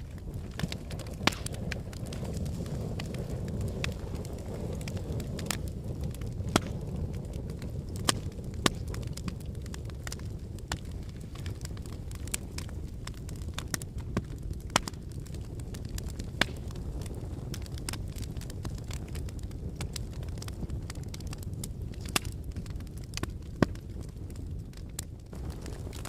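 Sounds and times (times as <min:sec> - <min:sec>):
fire rumbling in fireplace: 0:00.0 - 0:26.0
logs crackling and popping: 0:00.0 - 0:26.0.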